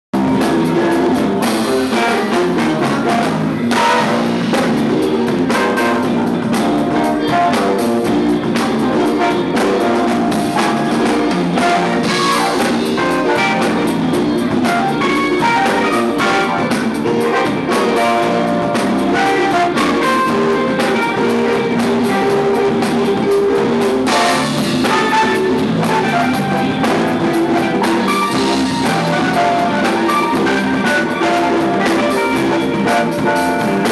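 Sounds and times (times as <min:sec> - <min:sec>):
bass: 0:00.1 - 0:33.9
drum kit: 0:00.1 - 0:33.9
electric guitar: 0:00.2 - 0:33.9
keyboard: 0:00.2 - 0:33.9.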